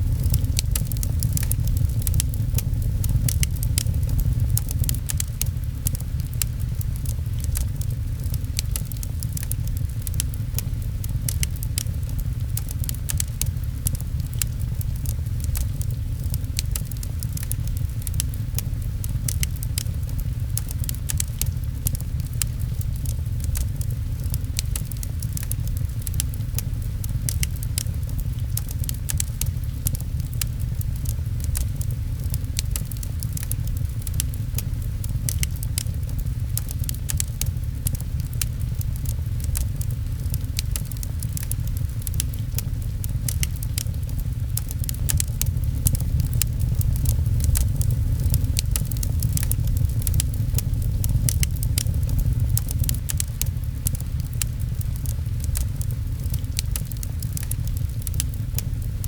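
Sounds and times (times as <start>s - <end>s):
rain patter: 0.0s - 59.0s
steady low rumble: 0.0s - 59.0s
wood fire crackling and popping: 0.0s - 59.0s.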